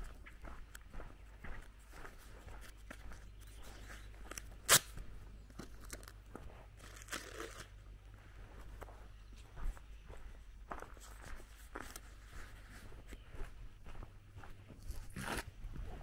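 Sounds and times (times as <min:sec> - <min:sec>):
footsteps on gravel: 0:00.0 - 0:16.0.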